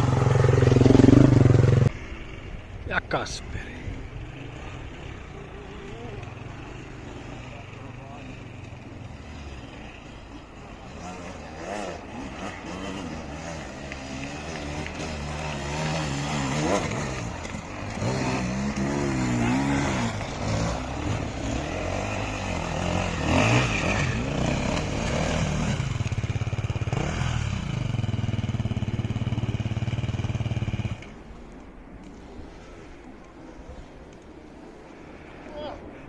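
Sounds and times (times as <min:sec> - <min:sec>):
dirt bike engine revving: 0:00.0 - 0:02.1, 0:04.2 - 0:31.2.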